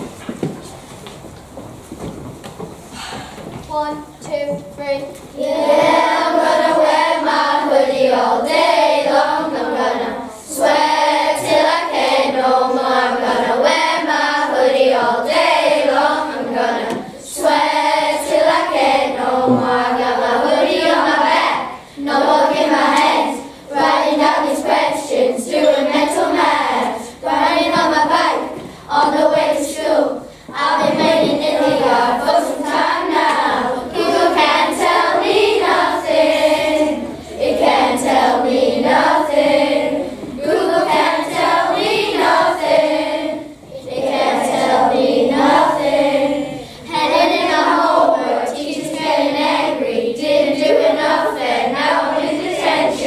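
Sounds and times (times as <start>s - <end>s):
children singing together: 5.2s - 53.0s.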